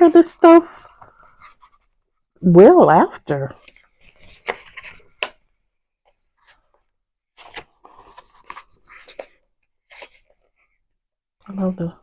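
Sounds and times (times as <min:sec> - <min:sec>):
notebook pages rustling: 0:00.1 - 0:02.4, 0:03.3 - 0:11.8.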